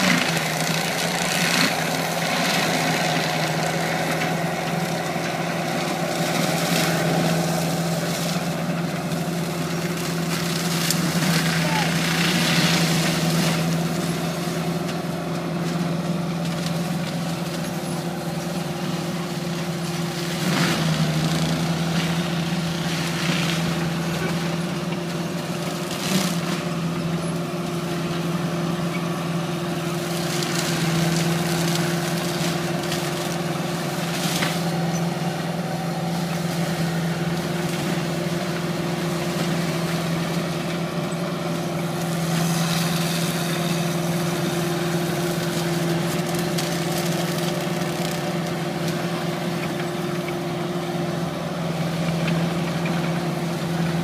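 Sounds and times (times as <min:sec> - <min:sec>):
tree mulching machine running: 0:00.0 - 0:54.0.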